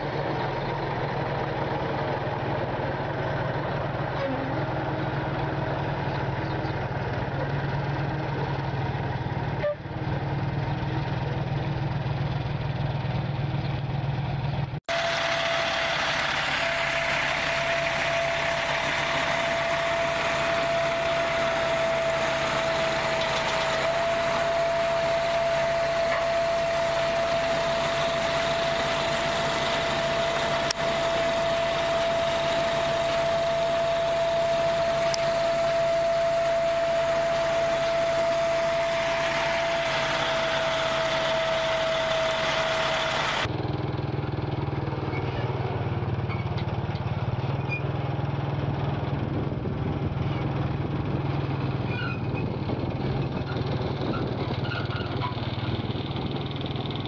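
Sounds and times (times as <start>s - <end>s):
vehicle engine whining: 0.0s - 57.0s.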